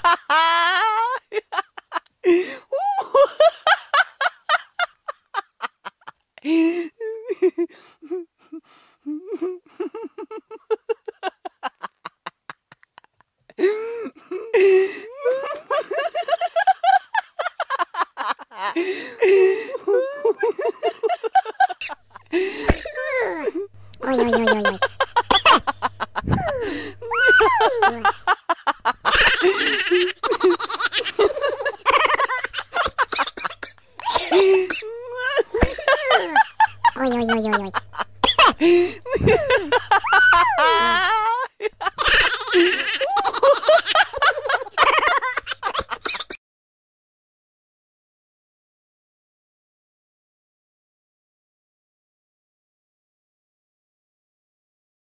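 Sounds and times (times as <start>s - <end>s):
person laughing hard: 0.0s - 46.4s.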